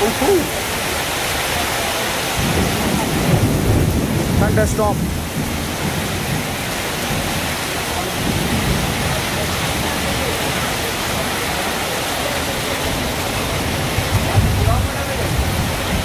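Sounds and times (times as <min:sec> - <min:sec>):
heavy rain: 0:00.0 - 0:16.0
water pouring off roof: 0:00.0 - 0:16.0.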